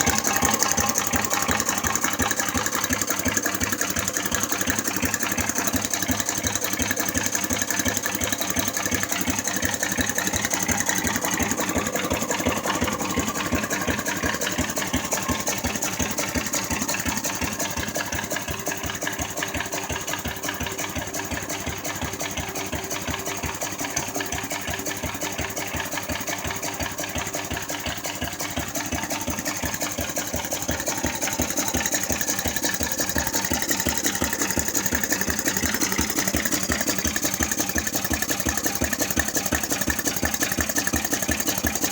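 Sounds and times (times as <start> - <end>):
vertical engine running: 0.0 - 41.9.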